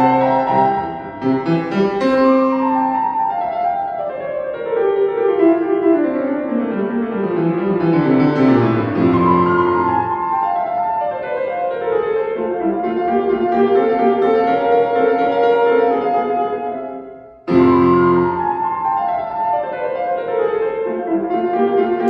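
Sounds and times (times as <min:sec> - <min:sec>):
classical piano playing: 0:00.0 - 0:22.0.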